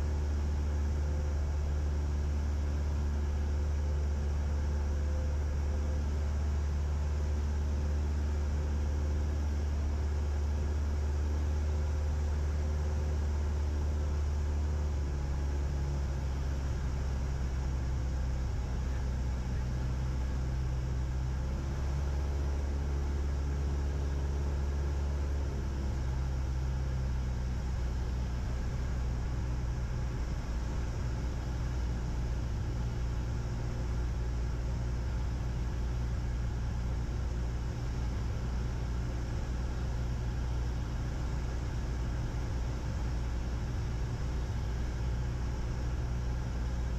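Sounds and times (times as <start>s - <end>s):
propeller plane engine droning: 0.0s - 46.9s.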